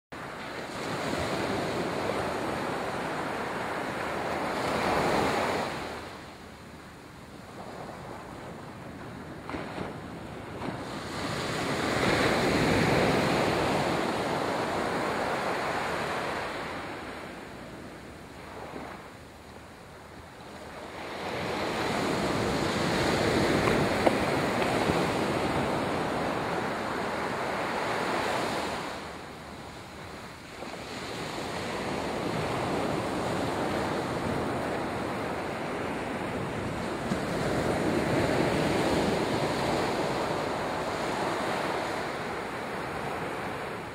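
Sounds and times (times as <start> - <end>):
waves breaking on sandy beach: 0.2 - 43.9.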